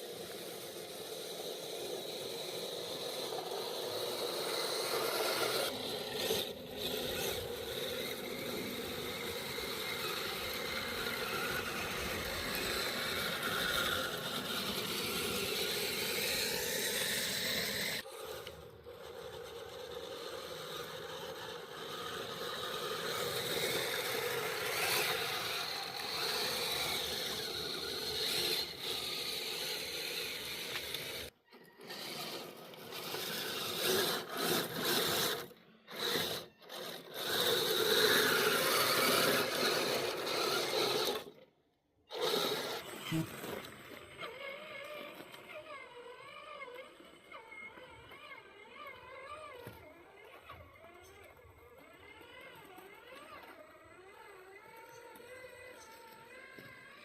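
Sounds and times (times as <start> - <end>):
scraping and grinding over ground: 0.0 - 41.5, 42.1 - 57.0
electric motor and drivetrain whirring: 0.0 - 57.0.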